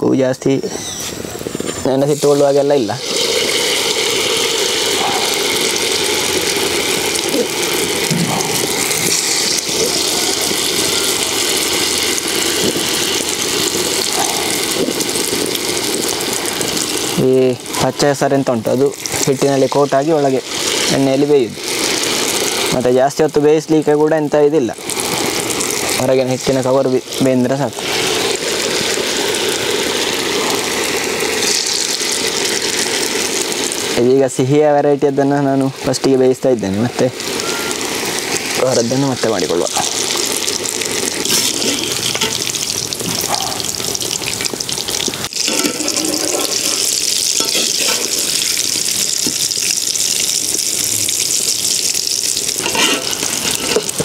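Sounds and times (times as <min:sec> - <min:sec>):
food deep-frying sizzle: 0:00.0 - 0:54.0.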